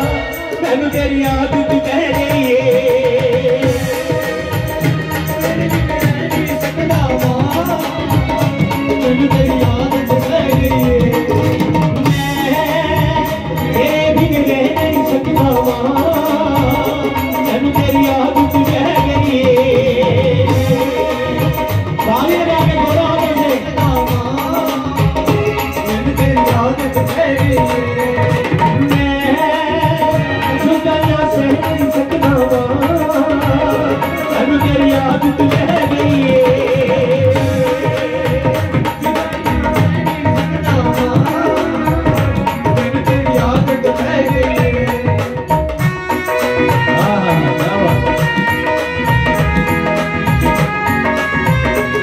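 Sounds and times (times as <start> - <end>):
drums playing fast rhythm: 0.0 - 52.0
keyboard melody: 0.0 - 52.0
man singing through a pa: 0.0 - 52.0.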